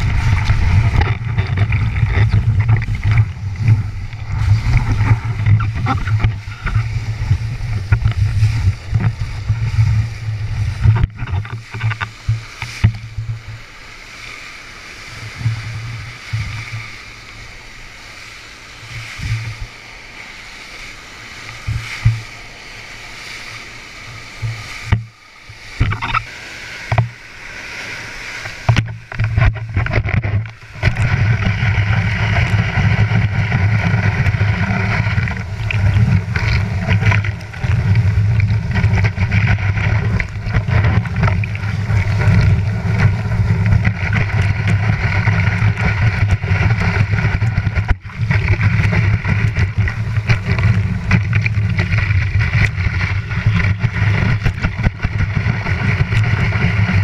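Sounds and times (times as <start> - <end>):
whitewater rushing and splashing: 0.0 - 57.0.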